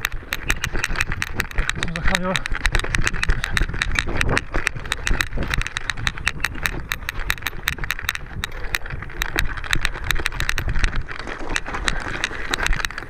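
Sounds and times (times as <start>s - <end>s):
clicks and knocks from bike: 0.0s - 13.0s
mountain bike rattling: 0.0s - 13.0s.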